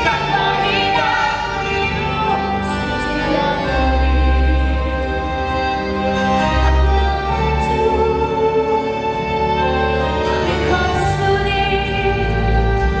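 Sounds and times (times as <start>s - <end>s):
music over sound system: 0.0s - 13.0s.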